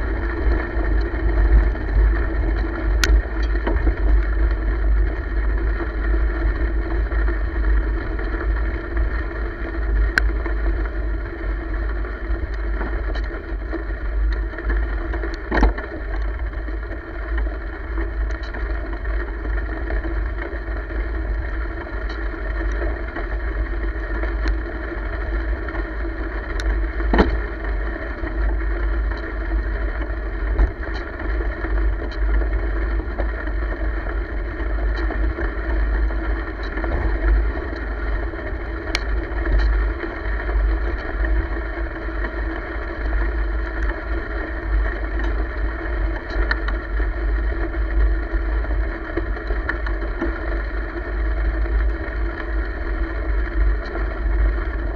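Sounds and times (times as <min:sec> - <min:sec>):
tyres rolling on gravel: 0:00.0 - 0:54.9
wind buffeting microphone: 0:00.0 - 0:54.9
small clicks and rattles: 0:00.1 - 0:54.9.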